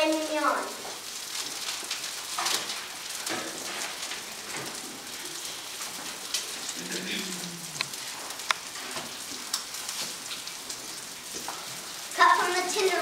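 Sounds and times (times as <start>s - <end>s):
steak sizzling in a hot pan: 0.0s - 13.0s.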